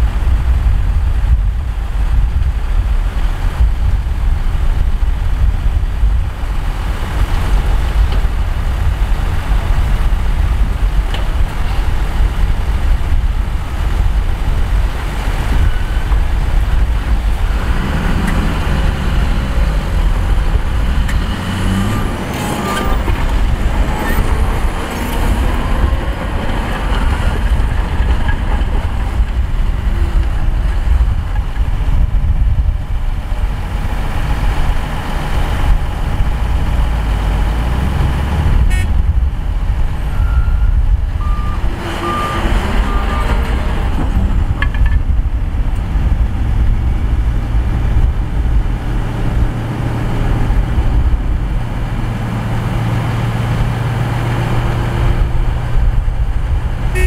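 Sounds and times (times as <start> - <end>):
diesel machinery engine: 0.0 - 57.0.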